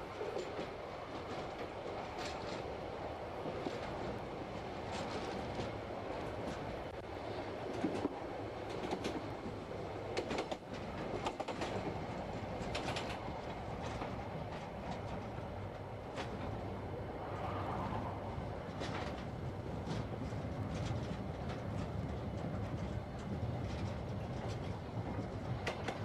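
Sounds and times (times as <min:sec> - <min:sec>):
rumble of wheels on rails: 0:00.0 - 0:26.0
clicks over rail joints: 0:00.2 - 0:02.7, 0:04.8 - 0:07.0, 0:07.7 - 0:16.6, 0:18.7 - 0:26.0.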